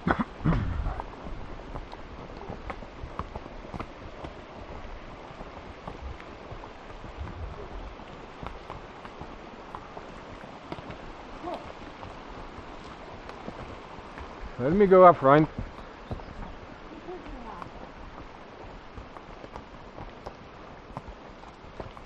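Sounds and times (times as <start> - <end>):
horse hooves on dirt trail: 0.0 - 22.0
steady rustling hiss: 0.0 - 22.0.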